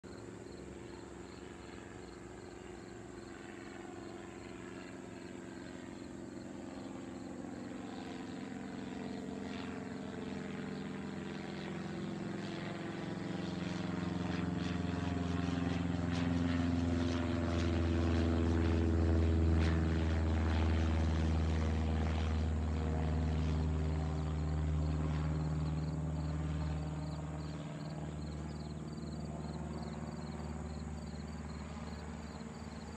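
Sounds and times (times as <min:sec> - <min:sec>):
light plane flying overhead: 0:00.0 - 0:32.9.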